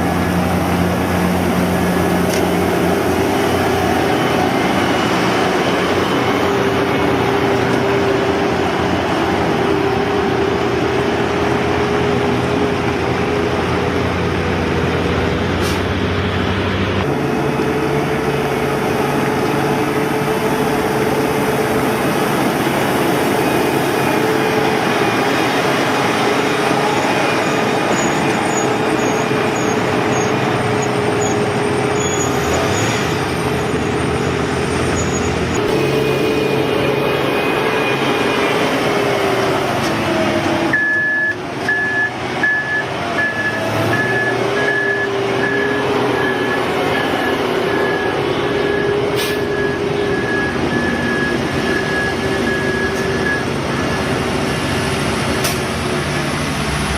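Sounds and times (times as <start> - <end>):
diesel engine rumble: 0.0 - 56.9.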